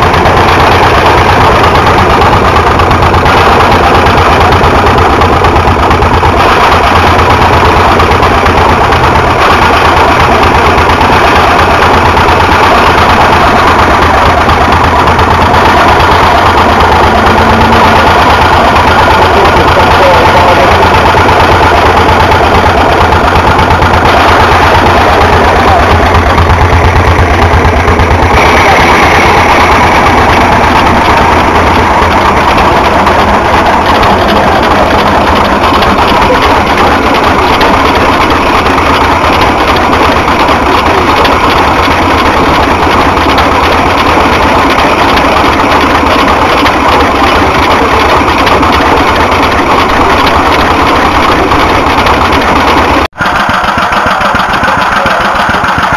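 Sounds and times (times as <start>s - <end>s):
stationary engine running: 0.0s - 55.9s.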